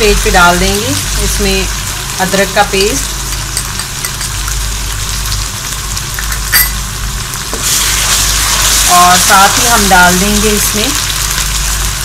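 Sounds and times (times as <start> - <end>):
paste sizzling in hot oil: 0.1 - 12.0.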